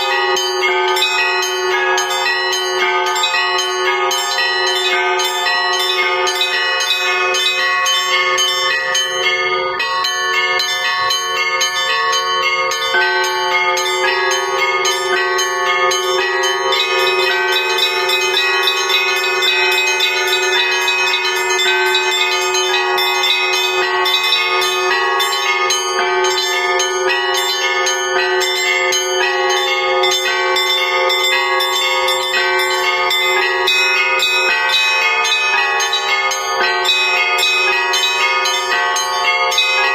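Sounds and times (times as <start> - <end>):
large bell humming: 0.0 - 39.9
small bells rapidly striking: 0.0 - 39.9.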